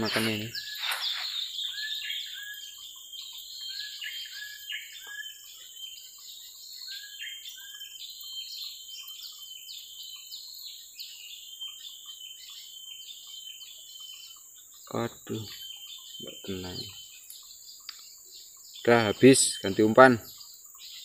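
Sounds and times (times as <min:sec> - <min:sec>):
birds chirping: 0:00.0 - 0:21.0
insects droning: 0:00.0 - 0:21.0.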